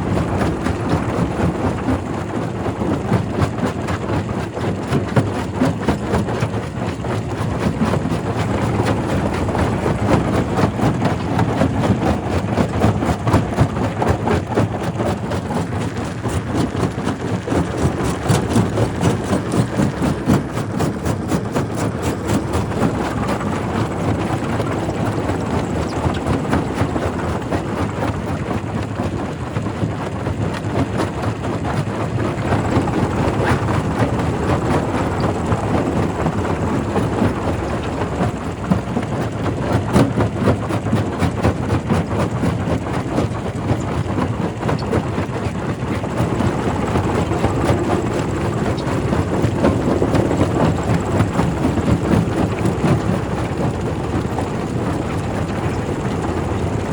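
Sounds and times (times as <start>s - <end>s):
low machine noise: 0.0s - 56.9s.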